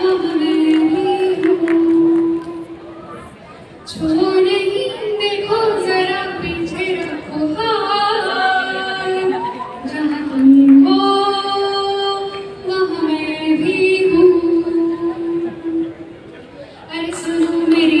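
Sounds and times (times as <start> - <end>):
woman singing into microphone: 0.0 - 2.9, 3.9 - 16.2, 16.8 - 18.0.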